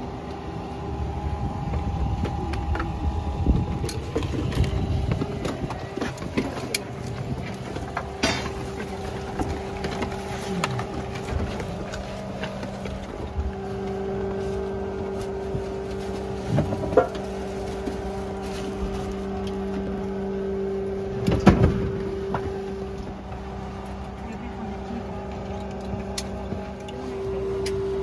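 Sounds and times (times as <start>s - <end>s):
aircraft cabin mechanical hum: 0.0s - 28.0s.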